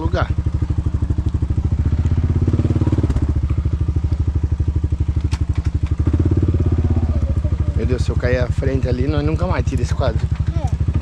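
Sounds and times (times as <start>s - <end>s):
quad bike engine at low revs: 0.0s - 11.0s.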